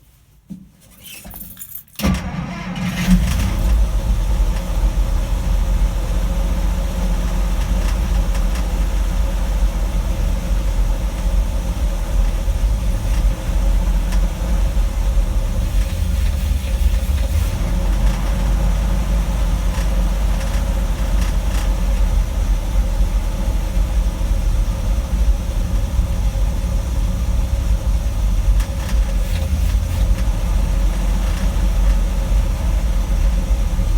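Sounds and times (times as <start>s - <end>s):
engine starting and idling high: 2.0s - 33.9s.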